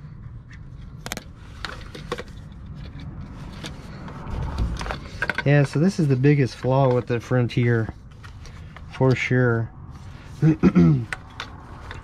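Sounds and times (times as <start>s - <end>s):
low rumble of handling: 0.0s - 10.4s
plastic clicks knocks and rubbing: 0.4s - 9.2s, 11.0s - 12.0s.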